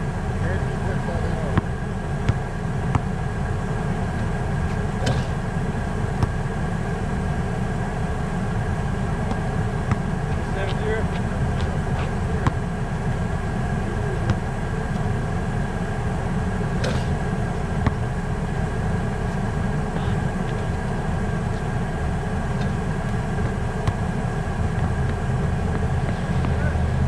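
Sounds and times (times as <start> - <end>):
faint hum: 0.0 - 27.0
low mechanical rumble: 0.0 - 27.0.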